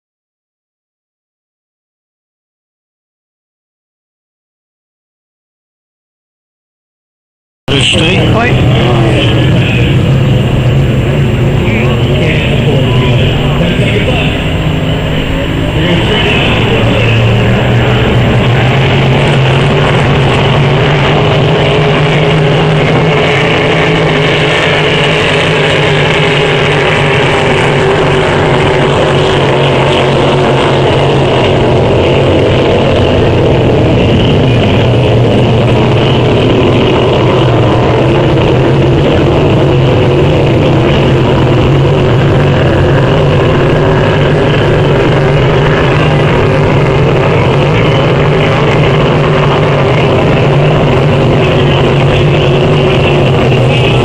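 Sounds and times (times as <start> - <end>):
boat engines droning: 7.7 - 54.0.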